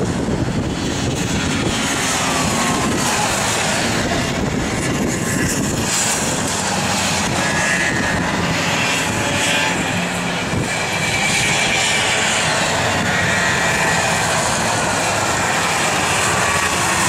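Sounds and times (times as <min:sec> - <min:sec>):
snowmobile engines racing: 0:00.0 - 0:17.0.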